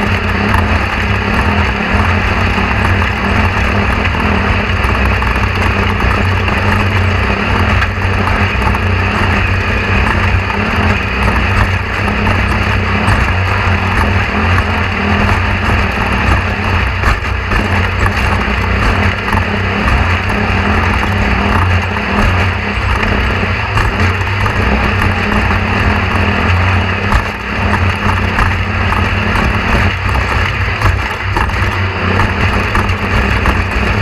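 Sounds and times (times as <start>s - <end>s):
vehicle engine low drone: 0.0s - 34.0s.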